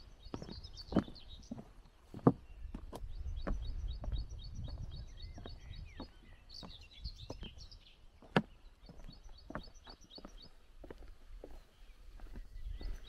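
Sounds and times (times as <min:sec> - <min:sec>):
footsteps on wooden boards: 0:00.0 - 0:13.0
songbird singing: 0:00.0 - 0:13.0.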